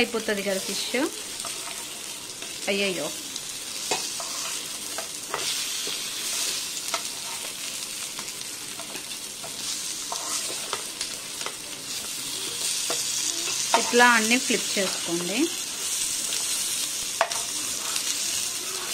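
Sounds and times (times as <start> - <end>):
fish sizzling in a pan: 0.0 - 18.9
metal spatula scraping a pan: 1.4 - 2.6, 3.8 - 12.0, 12.6 - 18.9.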